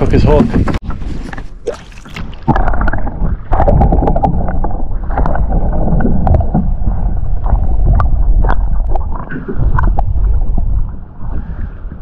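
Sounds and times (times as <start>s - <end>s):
boat hull and water rumble: 0.0s - 12.0s
wind buffeting microphone: 0.0s - 12.0s.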